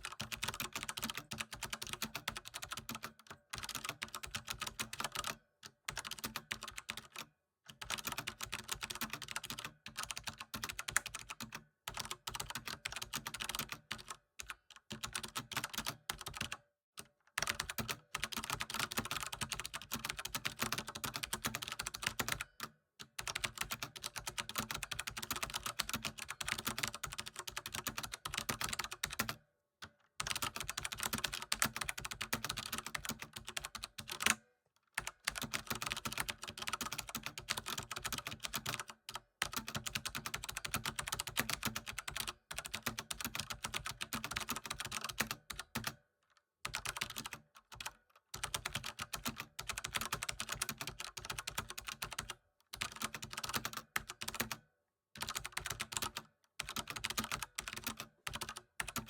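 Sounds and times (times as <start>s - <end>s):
fast keyboard typing: 0.0s - 16.6s, 17.4s - 22.6s, 23.2s - 29.4s, 30.2s - 34.4s, 35.0s - 46.0s, 46.7s - 54.6s, 55.2s - 59.0s.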